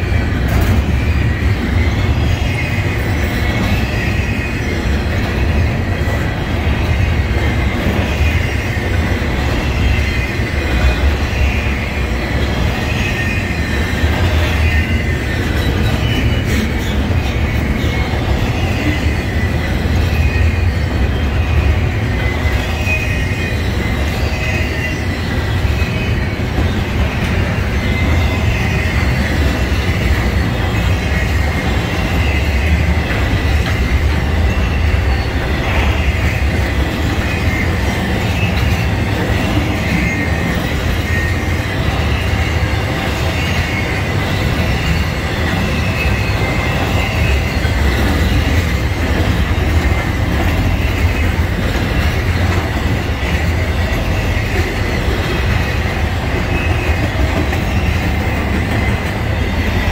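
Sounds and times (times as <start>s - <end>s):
high wheel squeal: 0.0s - 59.9s
steel wheels rumbling on rail: 0.0s - 59.9s.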